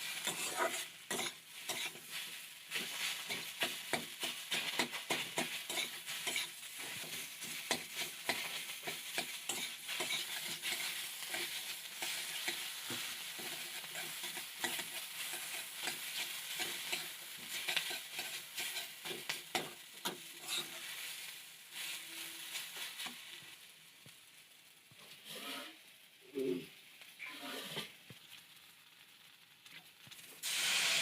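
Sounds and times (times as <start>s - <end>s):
spatula scraping a pan: 0.0s - 23.3s, 25.0s - 25.9s, 27.2s - 28.0s
food sizzling in a pan: 0.0s - 31.0s.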